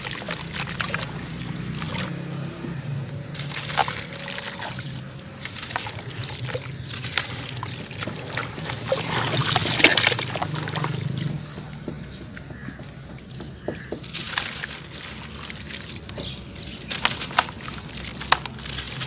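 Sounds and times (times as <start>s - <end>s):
blocks crackling in water: 0.0s - 2.3s, 3.2s - 12.2s, 13.1s - 19.0s.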